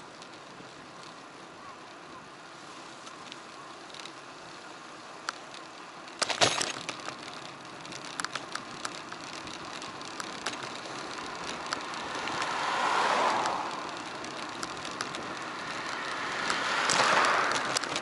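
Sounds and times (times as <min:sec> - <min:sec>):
wind and tyre noise: 0:00.0 - 0:18.0
bicycle clattering rattles: 0:03.1 - 0:18.0.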